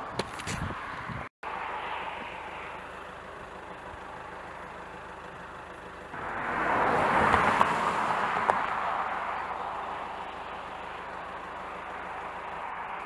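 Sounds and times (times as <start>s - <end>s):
car approaching: 0.0s - 13.0s
roadside background noise: 0.0s - 13.0s.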